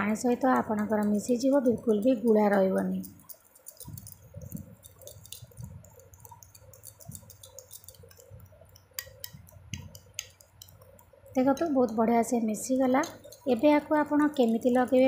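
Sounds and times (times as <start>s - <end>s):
spoon clinking against glass bowl: 0.6s - 15.0s.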